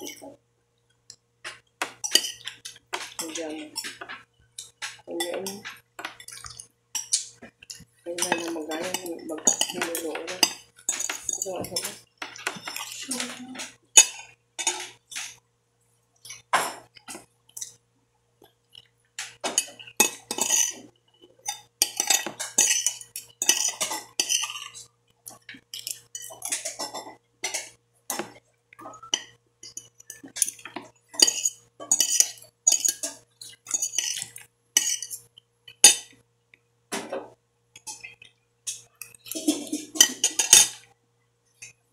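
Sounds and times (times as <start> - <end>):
cutlery scraping and clinking on plate: 1.5 - 15.4, 19.2 - 36.1, 37.0 - 40.9.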